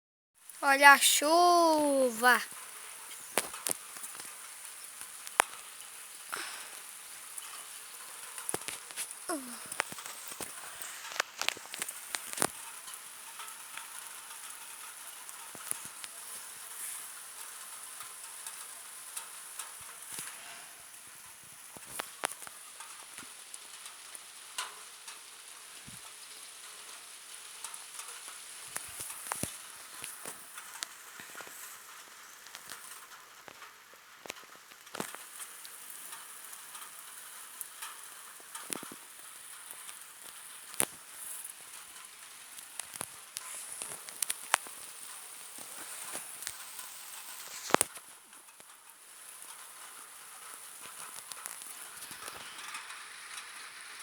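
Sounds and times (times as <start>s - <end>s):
raindrops tapping surfaces: 0.4s - 54.0s
steady rain hiss: 0.4s - 54.0s.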